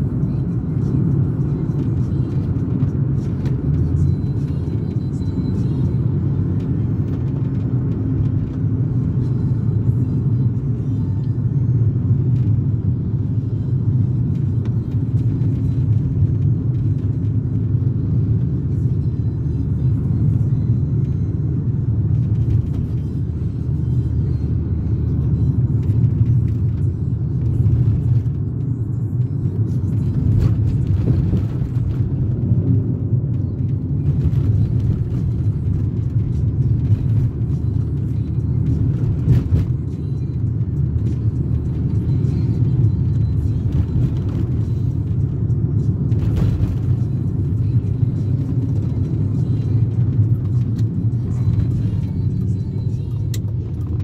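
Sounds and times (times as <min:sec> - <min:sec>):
car engine running: 0:00.0 - 0:54.0
road and tyre noise: 0:00.0 - 0:54.0.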